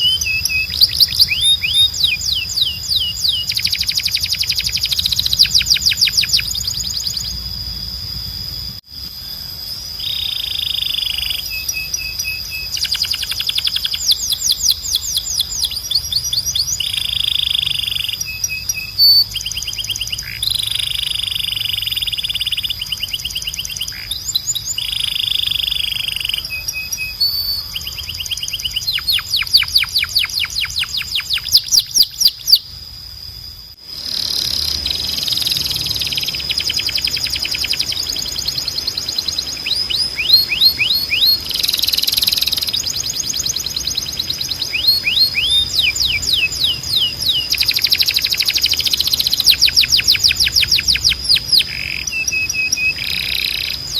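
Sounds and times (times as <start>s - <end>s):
canary singing trills: 0.0s - 8.7s, 9.3s - 32.8s, 33.9s - 53.9s.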